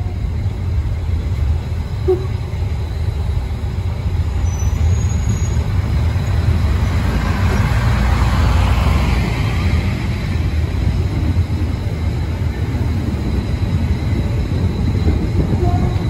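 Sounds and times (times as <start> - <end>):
diesel railcar engine rumble: 0.0 - 16.0.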